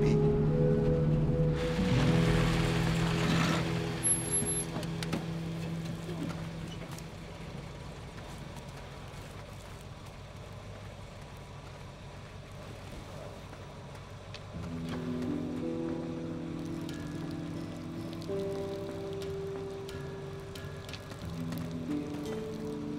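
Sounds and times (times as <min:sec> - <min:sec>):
brake squeal: 0:00.0 - 0:22.9
car engine idling: 0:00.0 - 0:22.9.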